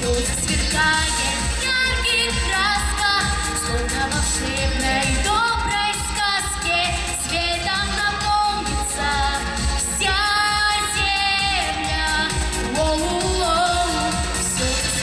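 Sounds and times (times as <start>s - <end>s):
backing track with bass line: 0.0s - 15.0s
girl singing pop song: 0.0s - 15.0s.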